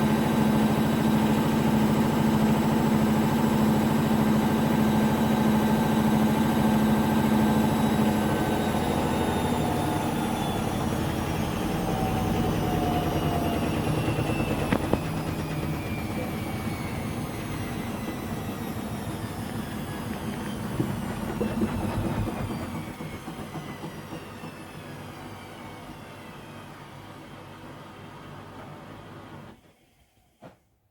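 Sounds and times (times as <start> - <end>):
washing machine vibrating and rattling: 0.0 - 29.3.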